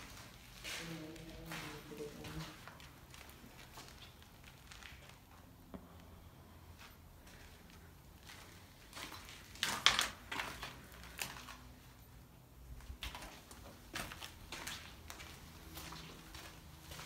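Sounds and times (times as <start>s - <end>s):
footsteps on debris: 0.0s - 5.4s, 6.8s - 11.7s, 12.8s - 17.0s.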